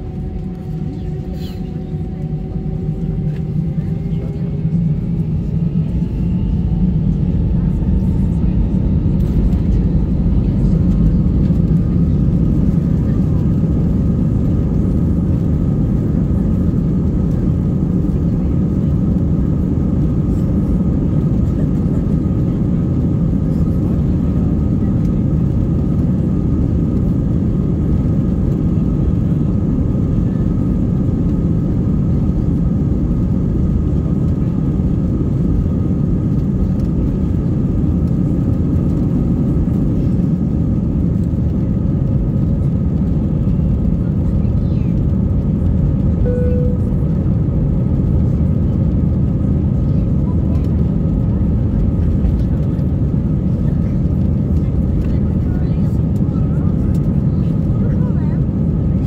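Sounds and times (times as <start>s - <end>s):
faint engine whine: 0.0s - 59.0s
jet engines rumbling: 0.0s - 59.0s.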